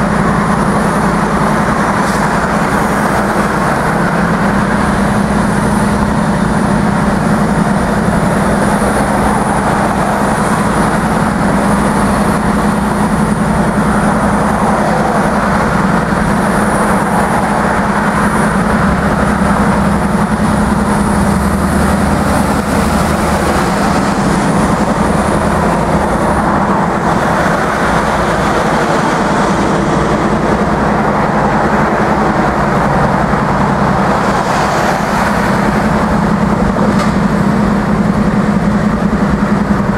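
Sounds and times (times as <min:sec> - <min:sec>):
high whine: 0:00.0 - 0:39.9
locomotive engine drone: 0:00.0 - 0:39.9
steel wheels rumbling on rails: 0:00.0 - 0:39.9.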